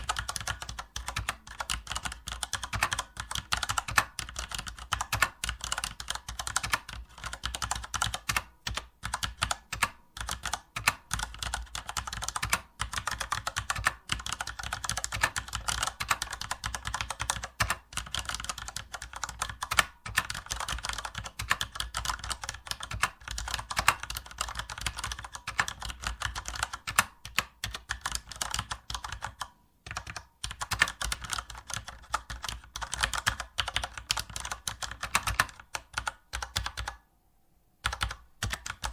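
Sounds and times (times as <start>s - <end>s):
computer keyboard typing: 0.0s - 37.0s, 37.8s - 38.9s.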